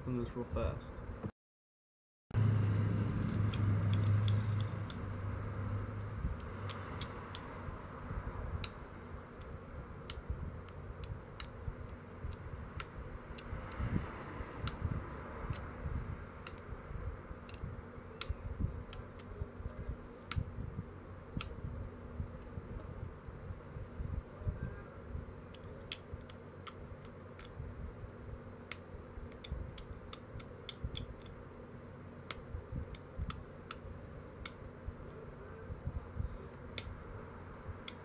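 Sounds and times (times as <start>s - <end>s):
steady low hum: 2.4s - 38.0s.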